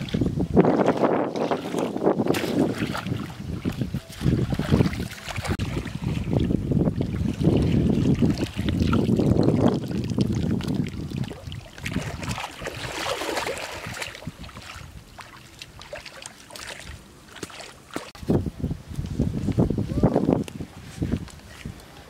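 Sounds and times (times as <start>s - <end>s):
wind rumbling on microphone: 0.0s - 15.9s, 18.0s - 22.0s
muddy water sloshing and splashing: 0.0s - 18.2s.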